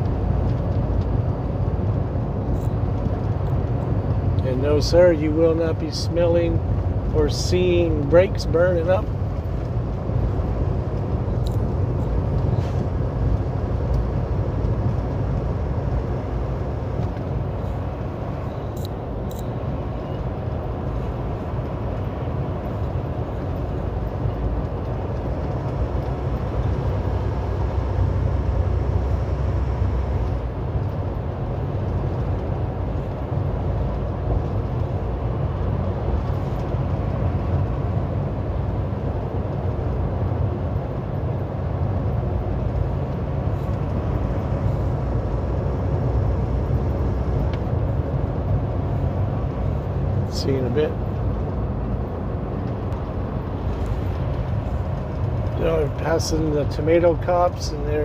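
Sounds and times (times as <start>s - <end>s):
road noise: 0.0s - 58.0s
truck diesel engine drone: 0.0s - 58.0s.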